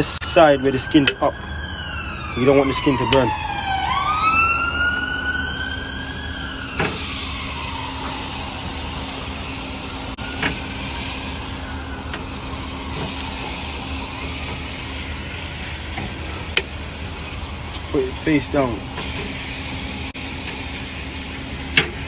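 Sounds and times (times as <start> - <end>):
emergency vehicle siren wailing: 0.0 - 20.2.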